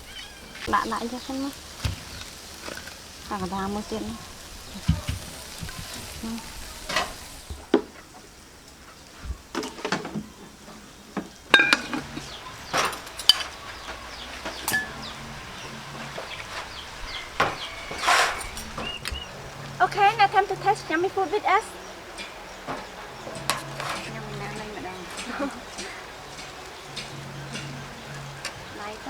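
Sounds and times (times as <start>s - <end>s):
food sizzling: 0.0s - 29.0s
utensil clinking and scraping pan: 0.6s - 7.6s, 9.6s - 29.0s.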